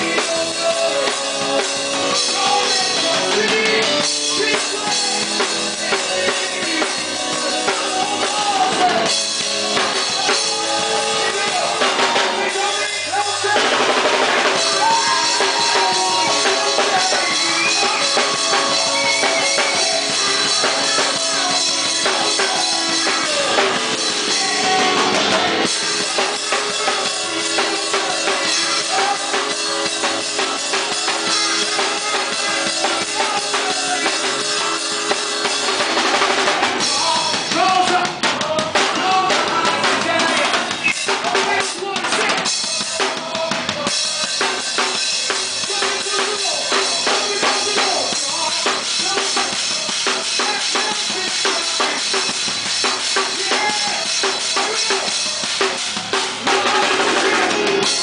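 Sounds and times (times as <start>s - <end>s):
band instruments holding chords: 0.0s - 58.0s
drum kit groove: 0.0s - 58.0s.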